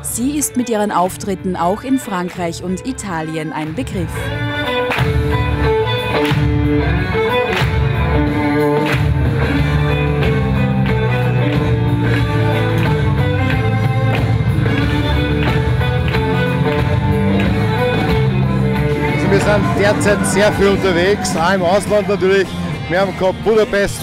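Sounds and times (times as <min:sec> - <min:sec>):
country line-dance music: 0:00.0 - 0:24.0.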